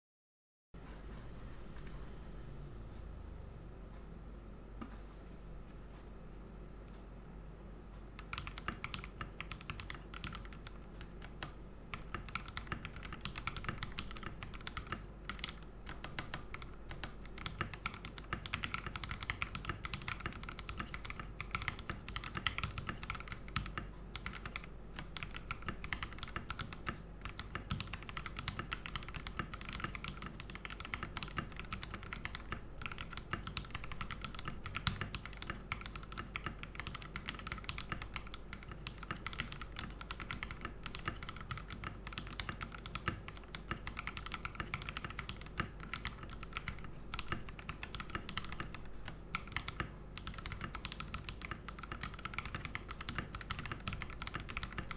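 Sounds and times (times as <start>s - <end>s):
fast mechanical keyboard typing: 8.2s - 54.9s.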